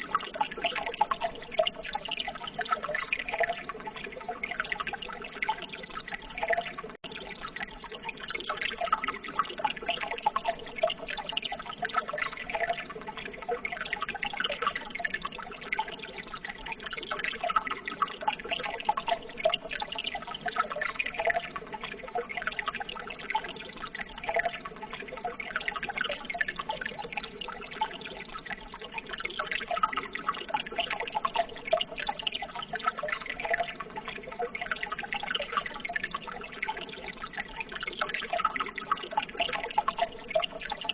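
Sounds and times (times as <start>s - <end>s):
water trickling and burbling: 0.0s - 40.9s.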